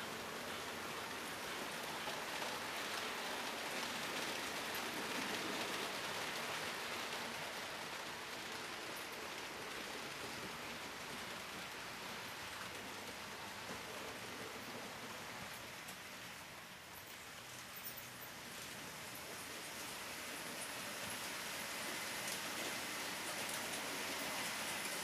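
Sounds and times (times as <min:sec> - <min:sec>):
model train wheels rattling on rails: 0:00.0 - 0:25.0.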